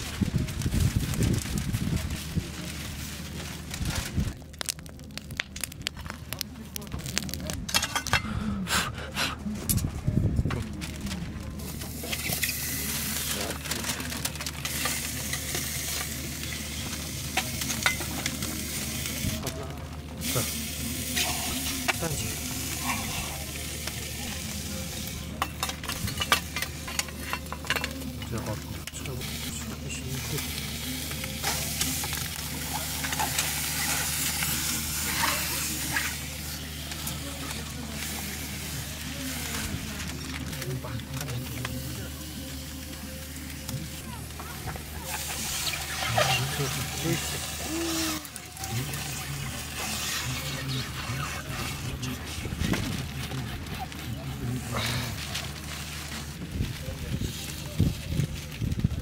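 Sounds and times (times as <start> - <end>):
hot stones sizzling on meat: 0.0 - 59.0.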